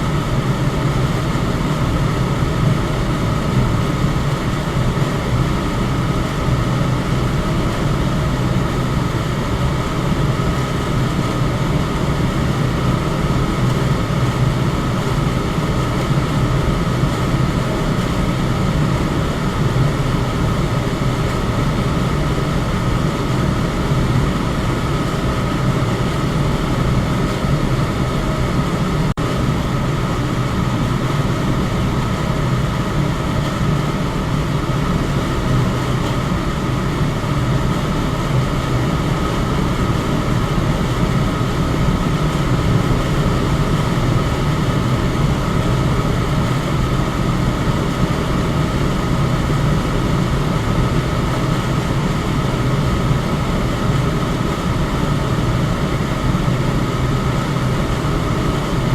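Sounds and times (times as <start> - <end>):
electric fan running: 0.0 - 58.9.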